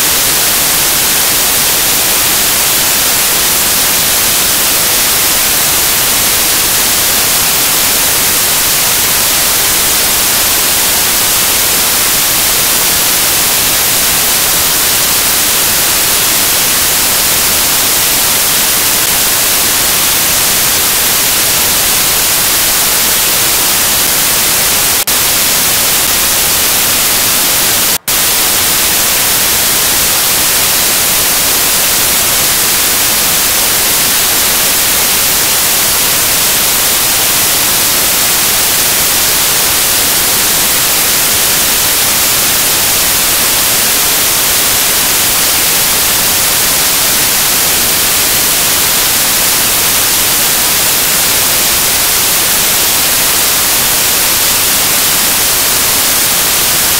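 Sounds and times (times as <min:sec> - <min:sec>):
loud static hiss: 0:00.0 - 0:56.9.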